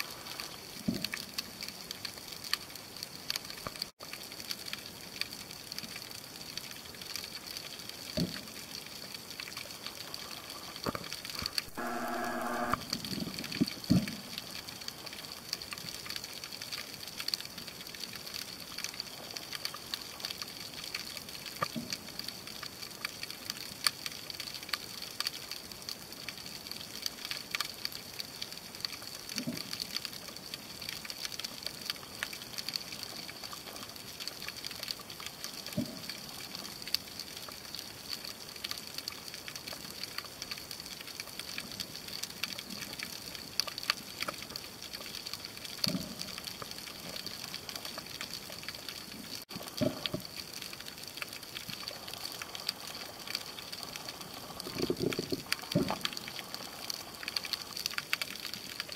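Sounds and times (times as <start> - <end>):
underwater crackle of clicks: 0.4 - 58.9.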